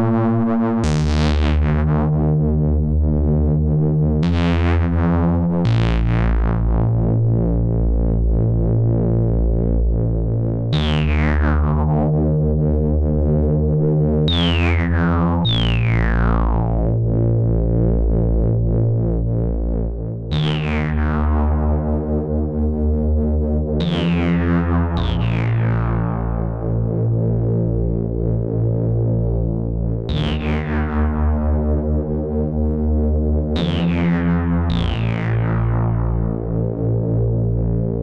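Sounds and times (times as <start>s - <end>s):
synthesizer low held notes: 0.0s - 38.0s.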